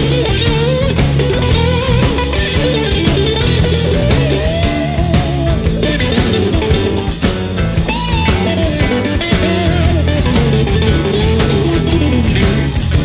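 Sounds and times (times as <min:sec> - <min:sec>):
bass guitar: 0:00.0 - 0:13.0
electric guitar: 0:00.0 - 0:13.0
steady drum beat: 0:00.0 - 0:13.0.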